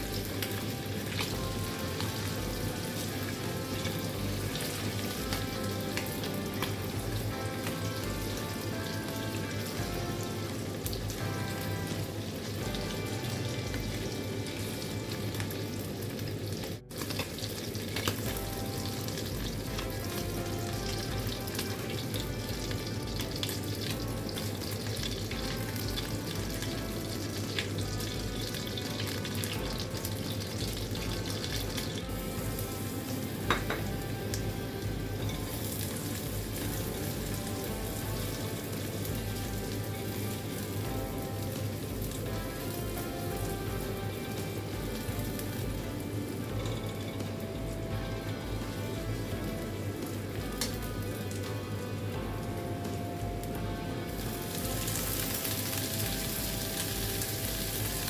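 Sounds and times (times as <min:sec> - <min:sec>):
oil sizzling in a wok: 0:00.0 - 0:58.0.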